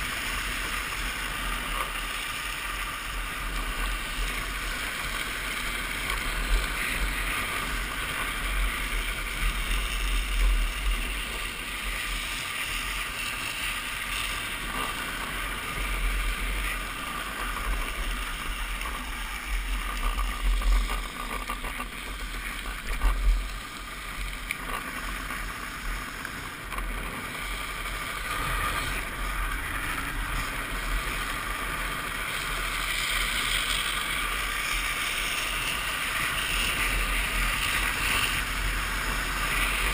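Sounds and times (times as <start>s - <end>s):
wheels hissing on asphalt: 0.0s - 39.9s.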